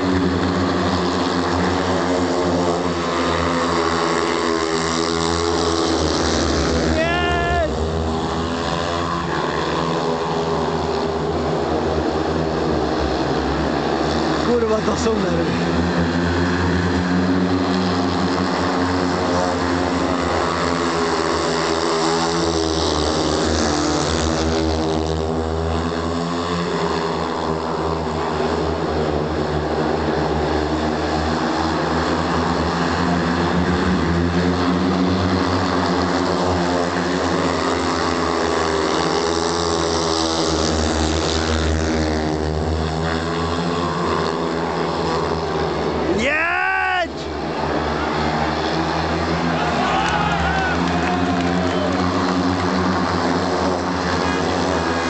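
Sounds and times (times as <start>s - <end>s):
motorcycles racing past: 0.0s - 55.0s.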